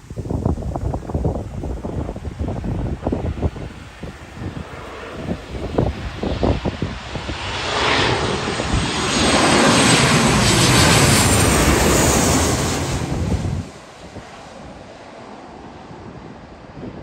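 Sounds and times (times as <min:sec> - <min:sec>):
airliner passing overhead: 0:00.0 - 0:17.0.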